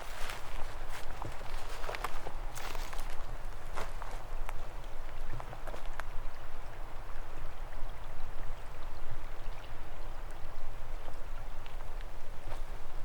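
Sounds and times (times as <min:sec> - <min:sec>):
stream trickling and splashing: 0:00.0 - 0:13.0
water drips: 0:00.2 - 0:13.0.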